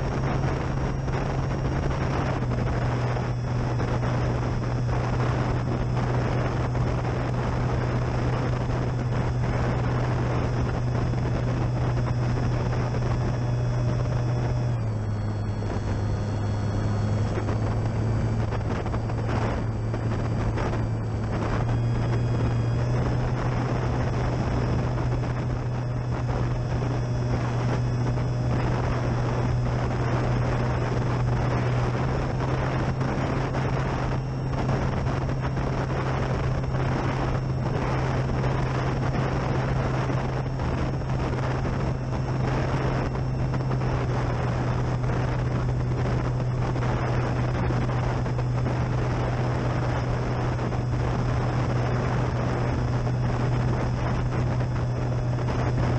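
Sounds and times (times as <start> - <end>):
model plane motor drone: 0.0 - 55.9
wind buffeting microphone: 0.0 - 55.9.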